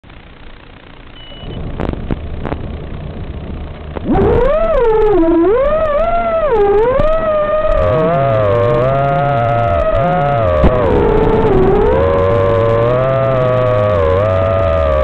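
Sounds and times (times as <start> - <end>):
low rumble: 0.0 - 15.0
drone motors whining: 1.0 - 15.0.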